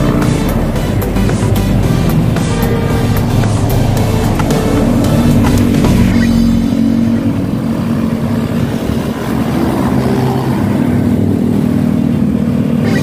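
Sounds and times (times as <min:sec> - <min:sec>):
passing vehicle engines: 0:00.0 - 0:13.0.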